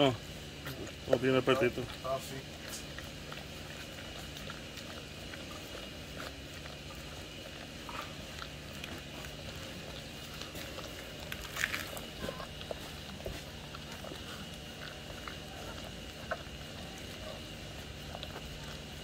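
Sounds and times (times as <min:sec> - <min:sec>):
puppies suckling: 0:00.0 - 0:19.0.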